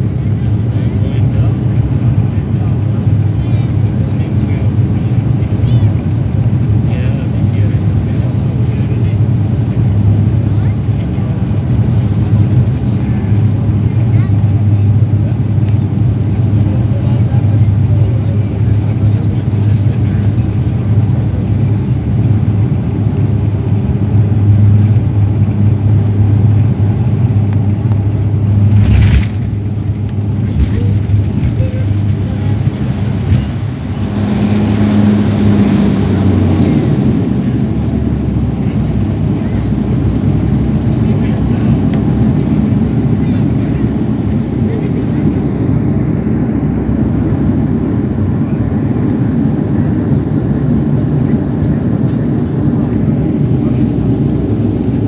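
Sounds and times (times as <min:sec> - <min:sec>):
turboprop airliner drone: 0:00.0 - 0:55.0.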